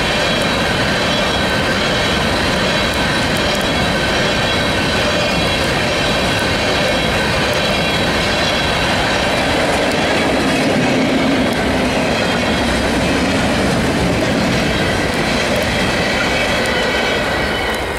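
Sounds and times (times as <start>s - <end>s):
high steady whining tones: 0.0s - 17.9s
train wheels rumbling and rattling: 0.0s - 17.9s.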